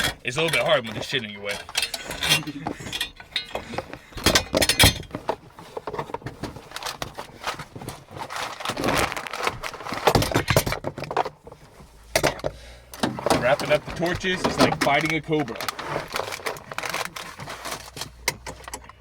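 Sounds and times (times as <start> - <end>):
hoses and fittings knocking and clinking: 0.0 - 19.0.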